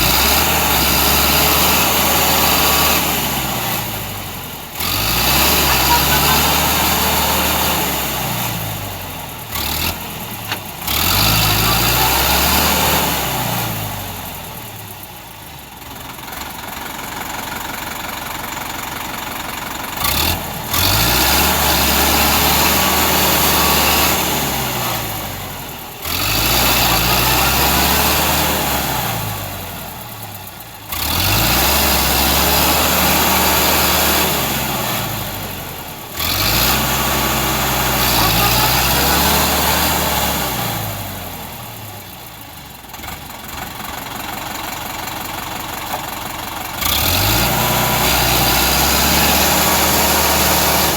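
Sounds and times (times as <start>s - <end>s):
tractor engine straining: 0.0s - 50.9s.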